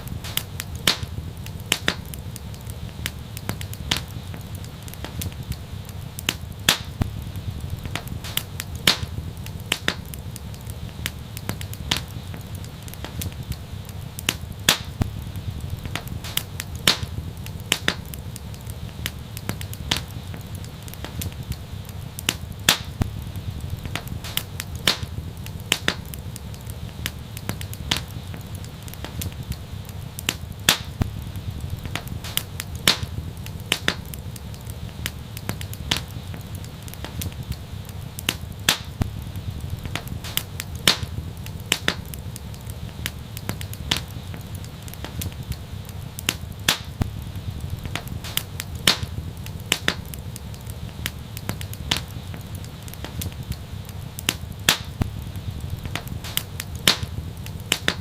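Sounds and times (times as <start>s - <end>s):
fire crackles and pops: 0.0s - 58.0s
flames rumbling: 0.0s - 58.0s.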